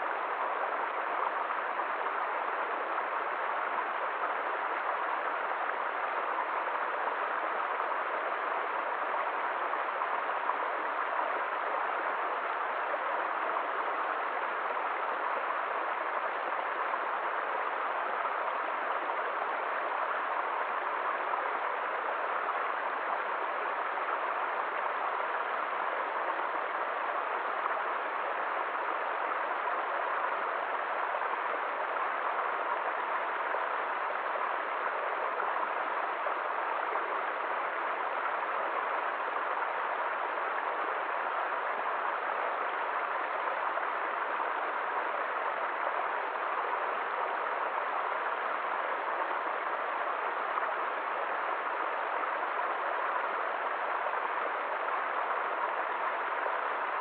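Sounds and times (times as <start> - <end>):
stream splashing over rocks: 0.0 - 57.0.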